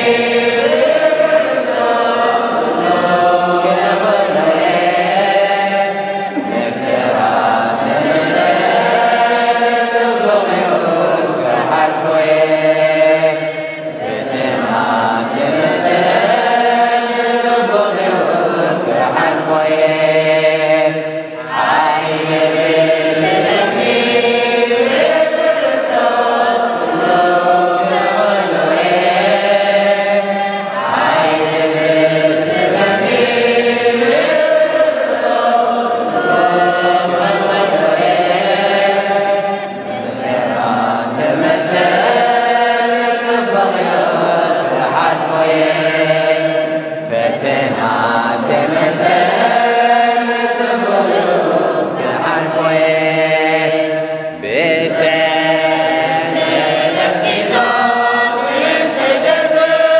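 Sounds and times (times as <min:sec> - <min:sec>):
mixed choir chanting a hymn: 0:00.0 - 0:59.9.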